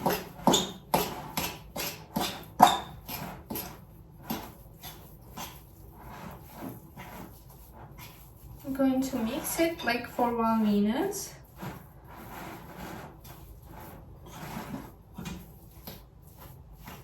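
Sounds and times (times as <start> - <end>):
utensil stirring thick dough: 0.0 - 17.0.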